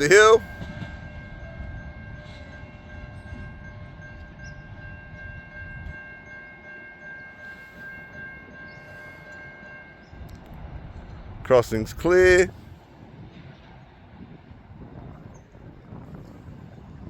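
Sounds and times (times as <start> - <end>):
freight train rumbling: 0.0 - 17.0.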